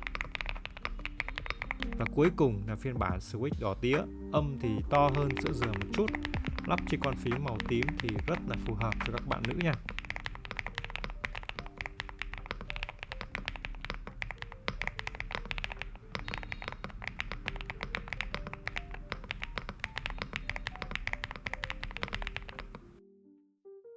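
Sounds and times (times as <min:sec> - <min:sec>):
mechanical keyboard key clacks: 0:00.0 - 0:02.1, 0:04.8 - 0:22.8
soft background music: 0:00.0 - 0:23.9.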